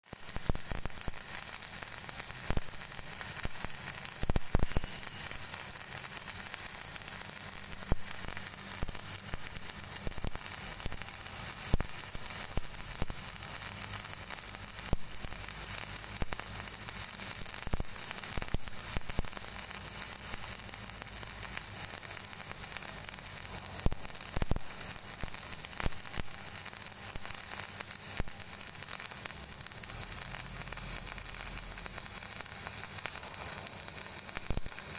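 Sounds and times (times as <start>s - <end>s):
welding arc crackling sizzle: 0.0s - 34.9s.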